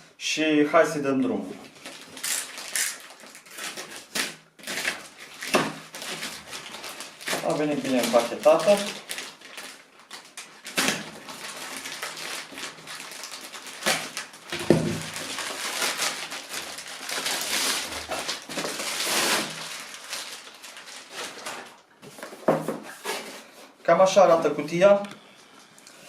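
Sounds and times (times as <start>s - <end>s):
packaging rustling and crackling: 1.2s - 23.8s.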